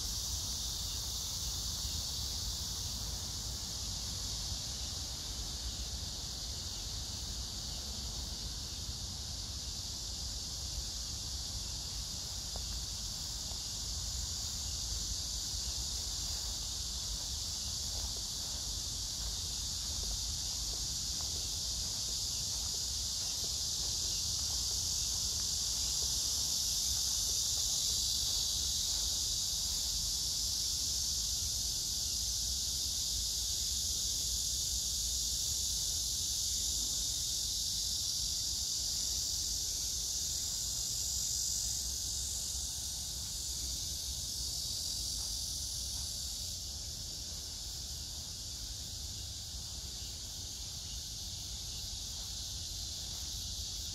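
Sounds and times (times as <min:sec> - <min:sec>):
cicadas and insects buzzing: 0:00.0 - 0:53.9.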